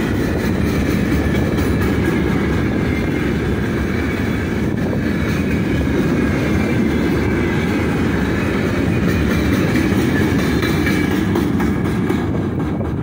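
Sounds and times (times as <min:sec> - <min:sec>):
freight wagons rolling on rails: 0:00.0 - 0:13.0.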